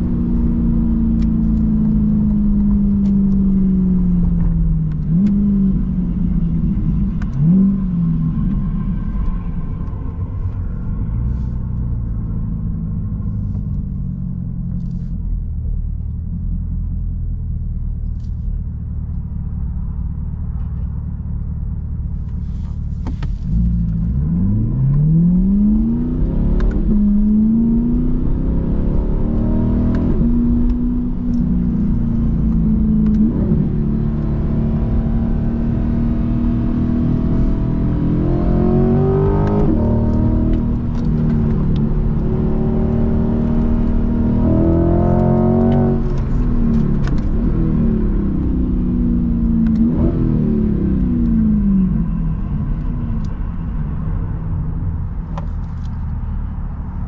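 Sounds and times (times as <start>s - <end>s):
car engine revving: 0.0s - 15.1s, 18.9s - 57.0s.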